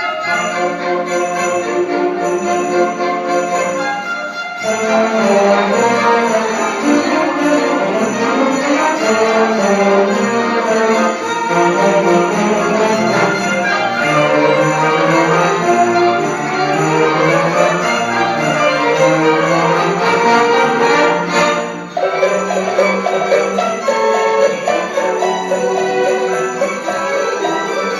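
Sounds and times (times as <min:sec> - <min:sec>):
orchestra playing: 0:00.0 - 0:27.9
sleigh bells jingling: 0:00.0 - 0:27.9.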